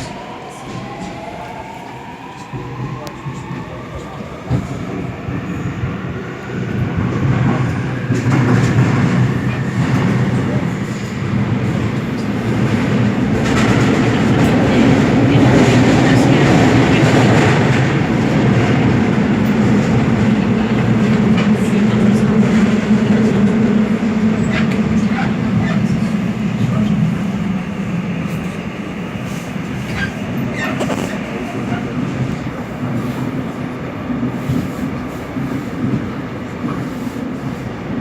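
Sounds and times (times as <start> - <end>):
train wheel and rail noise: 0.0 - 38.0.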